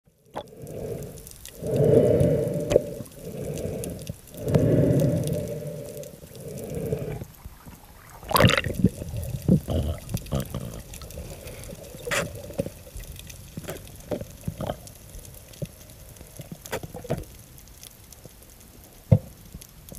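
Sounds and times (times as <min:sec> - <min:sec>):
water rushing underwater: 0:00.2 - 0:16.4.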